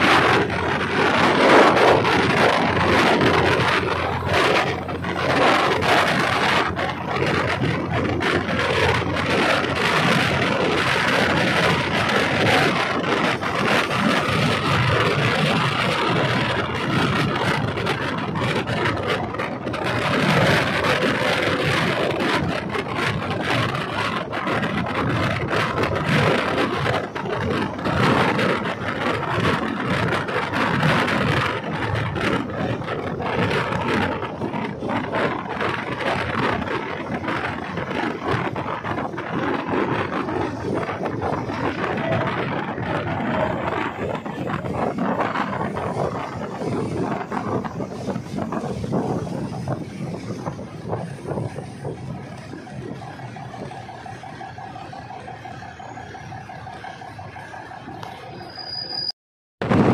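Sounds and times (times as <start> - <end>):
train wheels and wind noise: 0.0 - 59.9.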